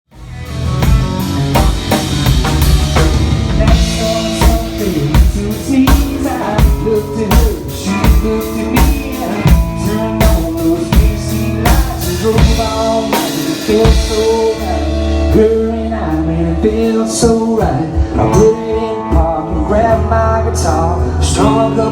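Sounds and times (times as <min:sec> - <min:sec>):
drum kit beat: 0:00.1 - 0:21.9
guitar: 0:00.1 - 0:21.9.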